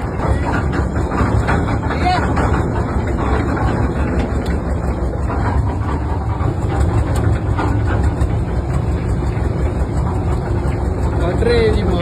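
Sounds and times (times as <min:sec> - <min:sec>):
heavy machine engine rumbling: 0:00.0 - 0:12.0.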